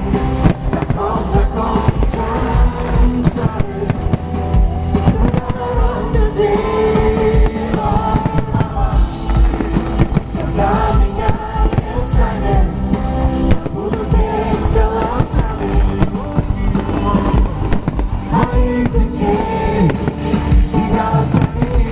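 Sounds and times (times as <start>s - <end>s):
fireworks bangs and crackles: 0.0s - 21.9s
live concert music with heavy bass: 0.0s - 21.9s
person singing: 0.6s - 9.7s, 10.3s - 21.9s.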